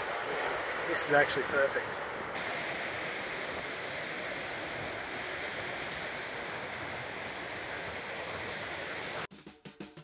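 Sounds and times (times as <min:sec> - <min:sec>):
ocean surf washing onto beach: 0:00.0 - 0:09.3.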